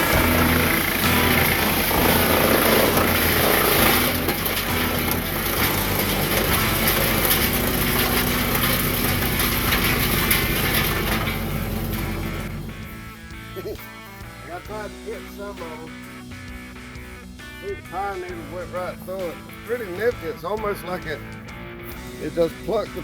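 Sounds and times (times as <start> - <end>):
wood chipper engine running: 0.0 - 23.0.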